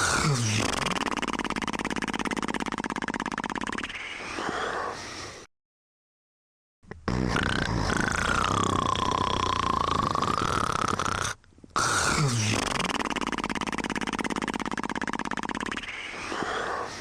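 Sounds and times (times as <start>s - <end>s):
person snoring: 0.0s - 5.5s, 7.0s - 17.0s.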